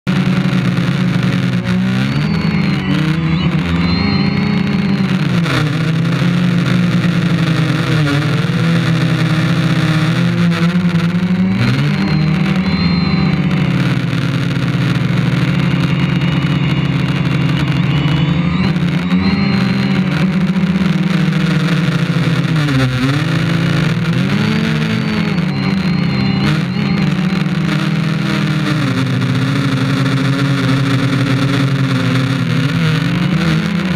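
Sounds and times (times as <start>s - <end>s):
quadcopter motors and propellers: 0.1s - 33.9s.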